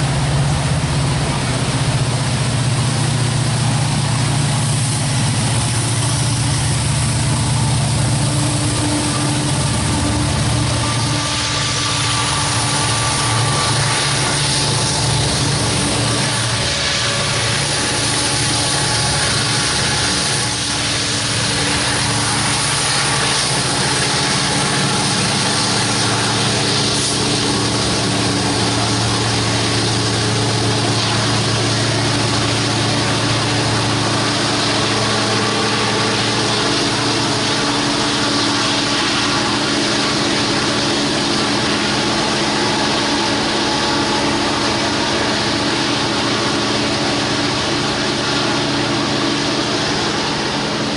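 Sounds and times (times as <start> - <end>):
locomotive engine drone: 0.0 - 50.9
rushing noise of moving train: 0.0 - 50.9.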